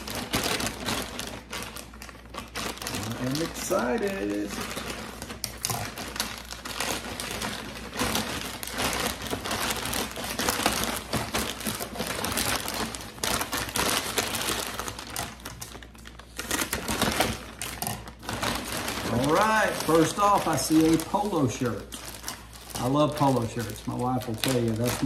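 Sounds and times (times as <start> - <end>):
plastic bag crinkling: 0.0 - 25.0
plastic tearing: 0.0 - 25.0
scissors cutting plastic: 0.0 - 25.0.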